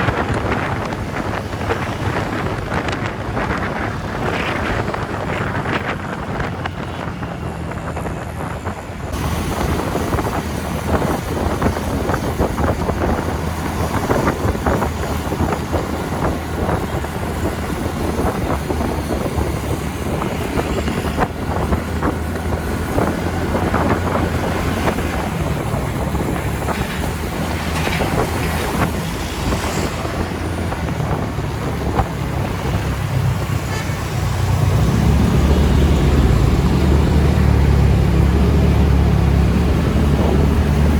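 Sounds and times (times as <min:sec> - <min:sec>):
road and traffic noise: 0:00.0 - 0:40.9
wind buffeting microphone: 0:00.0 - 0:40.9.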